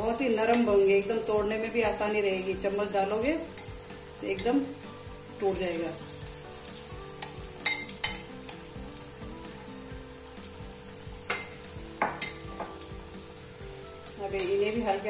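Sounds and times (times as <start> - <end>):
oil sizzling while deep-frying: 0.0 - 15.0.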